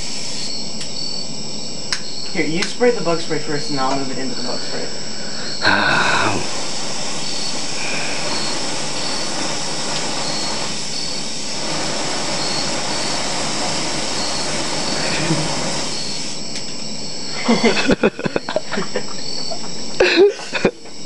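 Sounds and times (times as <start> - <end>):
burning spray hissing: 0.0 - 20.7.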